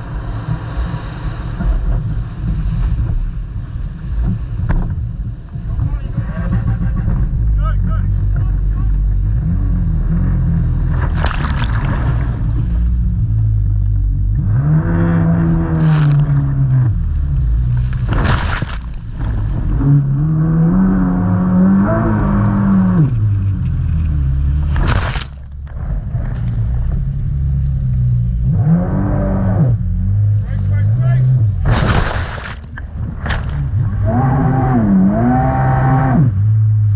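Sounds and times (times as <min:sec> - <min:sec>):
jet ski engine revving: 0:00.0 - 0:36.9
low rumble: 0:00.0 - 0:36.9.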